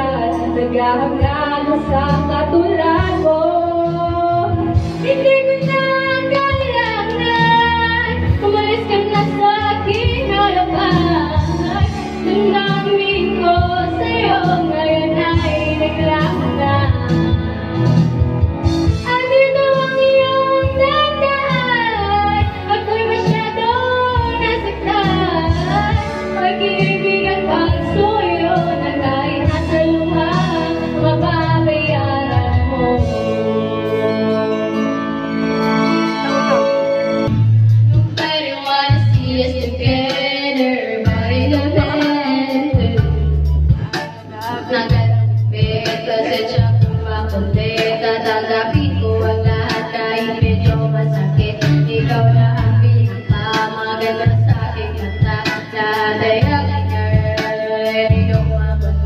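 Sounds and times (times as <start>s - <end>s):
women singing karaoke: 0.0s - 36.4s, 37.3s - 59.0s
backing track music: 0.0s - 59.0s.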